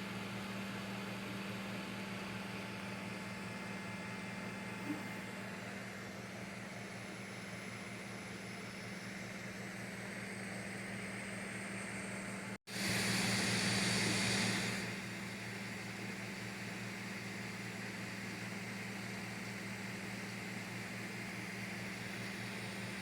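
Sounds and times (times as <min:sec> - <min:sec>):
printer fan hum: 0:00.0 - 0:23.0.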